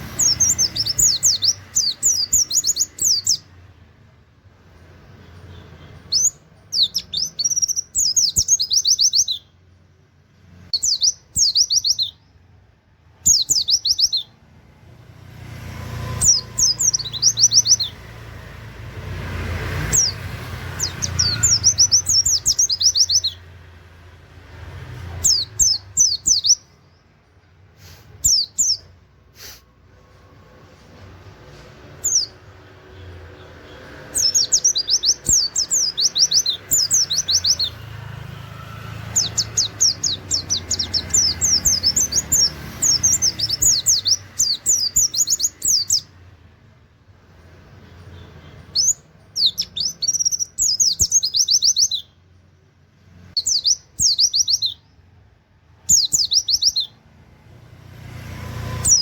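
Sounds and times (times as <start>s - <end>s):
bird singing high chirps: 0.0s - 3.8s, 5.1s - 9.7s, 10.5s - 12.5s, 13.1s - 14.5s, 15.4s - 27.2s, 28.0s - 29.0s, 31.2s - 46.3s, 47.7s - 52.3s, 53.1s - 55.2s, 55.8s - 57.1s, 58.5s - 59.0s.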